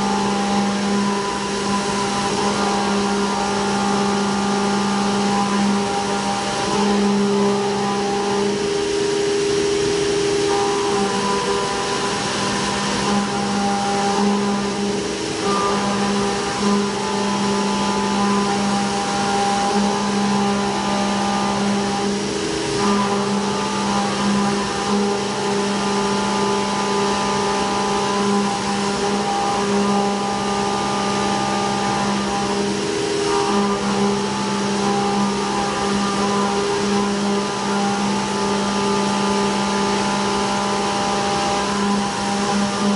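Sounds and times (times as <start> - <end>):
humming cutting tone: 0.0 - 42.9
milling machine cutting metal: 0.0 - 42.9.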